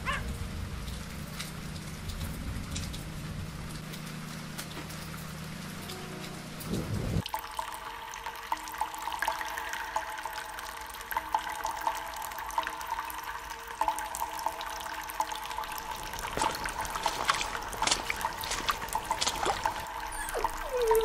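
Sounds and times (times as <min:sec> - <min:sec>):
water dripping and trickling: 0:00.0 - 0:21.0.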